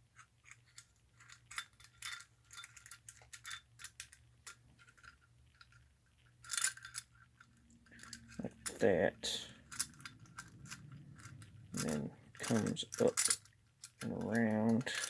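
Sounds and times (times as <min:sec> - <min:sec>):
faint low hum: 0:00.0 - 0:15.0
small metal parts clinking: 0:00.1 - 0:15.0.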